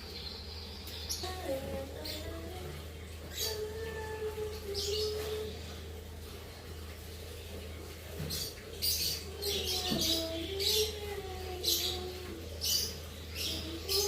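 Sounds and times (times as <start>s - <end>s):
lovebirds chirping: 0.0s - 5.8s, 7.5s - 14.0s
steady low hum: 0.0s - 14.0s.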